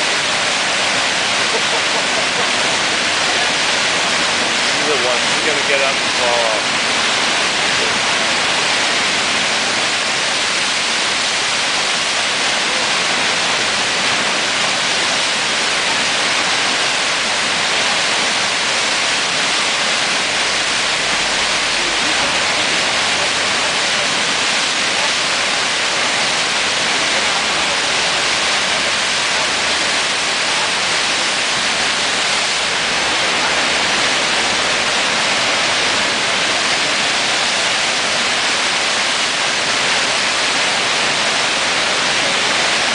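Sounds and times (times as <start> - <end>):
whitewater rushing: 0.0 - 42.9.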